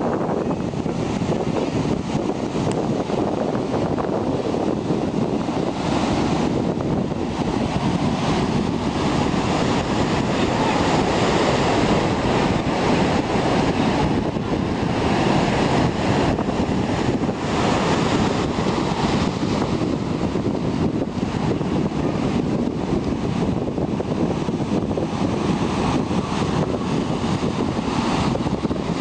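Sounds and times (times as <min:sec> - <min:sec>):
ocean surf breaking on rocks: 0:00.0 - 0:29.0
wind buffeting microphone: 0:00.0 - 0:29.0.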